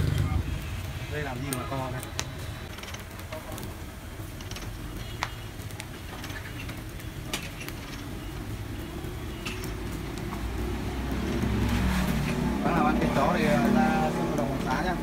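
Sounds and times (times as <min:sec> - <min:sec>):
grill clicks and crackles: 0:00.0 - 0:15.0
low street hum: 0:00.0 - 0:15.0.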